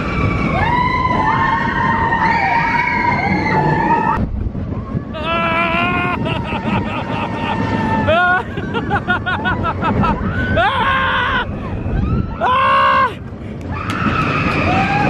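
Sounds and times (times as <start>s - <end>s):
riders screaming and whooping: 0.0s - 15.0s
roller coaster rumbling on track: 0.0s - 15.0s.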